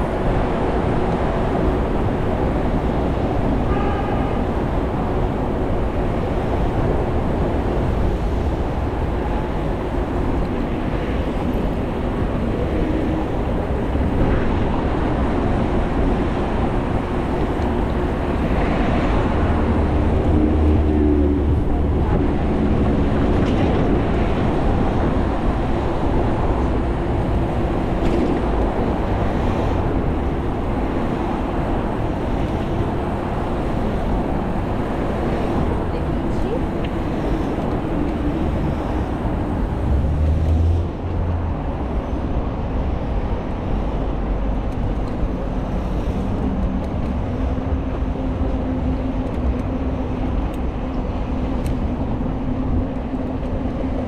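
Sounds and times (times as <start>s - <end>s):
city traffic rumble: 0.0s - 54.0s
faint vehicle engine hums: 0.0s - 54.0s
wind: 0.0s - 54.0s.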